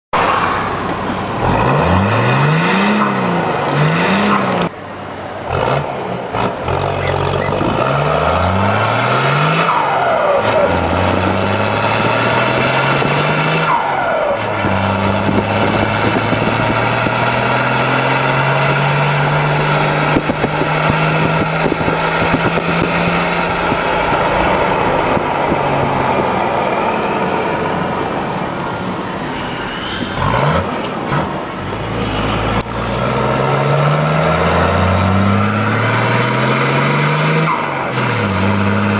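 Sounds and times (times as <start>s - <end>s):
pickup engine revving: 0.2s - 38.9s.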